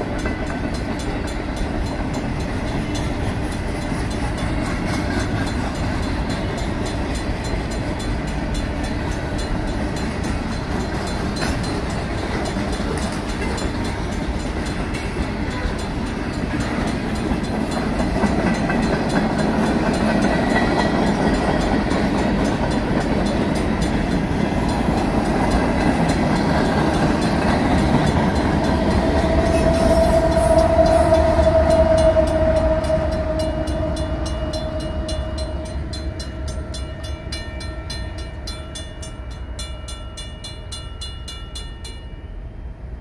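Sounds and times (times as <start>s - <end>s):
steel wheels rumbling on rails: 0.0s - 41.5s
diesel locomotive engine drone: 0.0s - 41.6s
crossing bell ringing: 0.0s - 42.6s.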